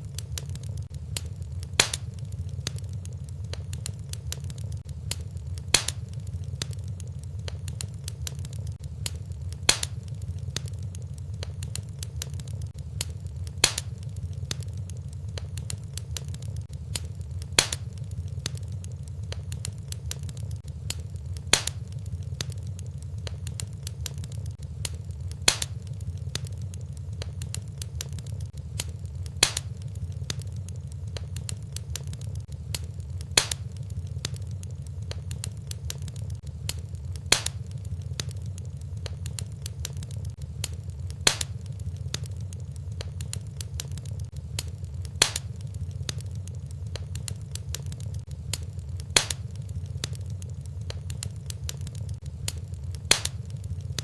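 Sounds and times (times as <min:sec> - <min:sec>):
fire crackling: 0:00.0 - 0:54.0
fire rumbling in fireplace: 0:00.0 - 0:54.0
sharp popping of fire: 0:00.0 - 0:54.0.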